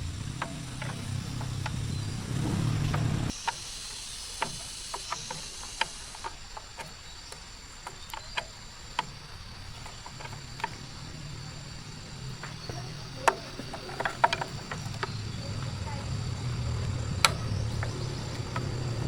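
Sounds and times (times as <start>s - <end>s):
faint insect chirr: 0.0s - 19.0s
light clicks and taps: 0.3s - 19.0s.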